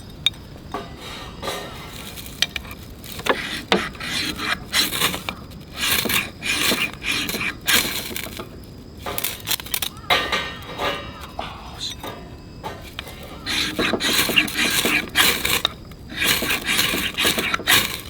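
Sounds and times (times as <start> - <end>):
tool scraping wood: 0.8 - 10.4, 11.8 - 18.0.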